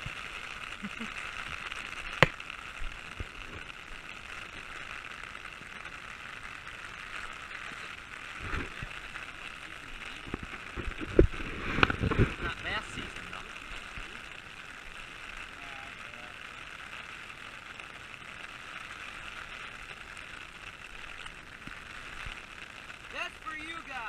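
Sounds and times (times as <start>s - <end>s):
rain pattering on an umbrella: 0.0s - 24.0s.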